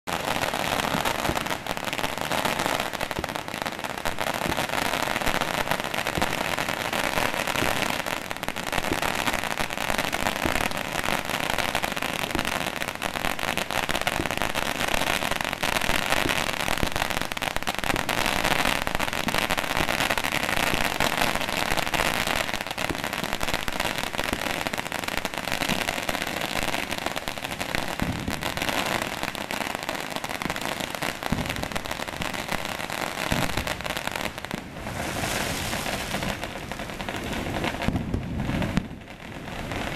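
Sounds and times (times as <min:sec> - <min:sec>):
firecrackers crackling: 0:00.1 - 0:39.9.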